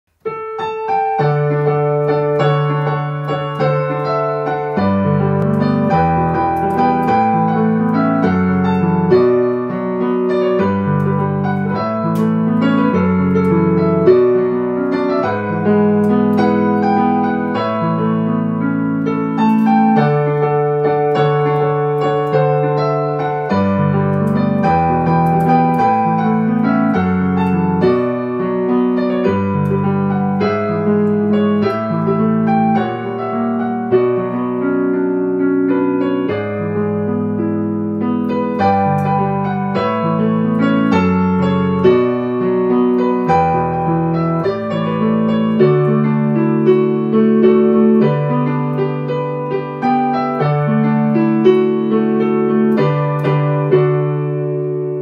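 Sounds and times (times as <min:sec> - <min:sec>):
piano chords over bass line: 0:00.1 - 0:55.0.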